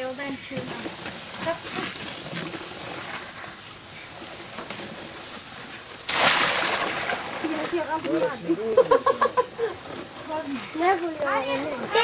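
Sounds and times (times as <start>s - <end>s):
sudden loud hiss: 0.0s - 9.8s
liquid boiling with seething hiss: 0.0s - 12.0s.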